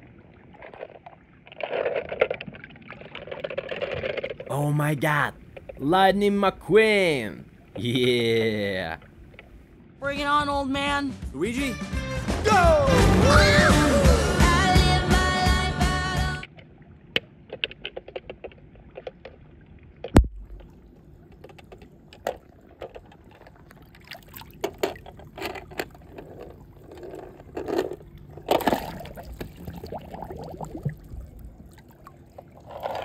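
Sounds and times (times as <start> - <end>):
water swishing and splashing: 0.0 - 10.0, 16.4 - 33.0.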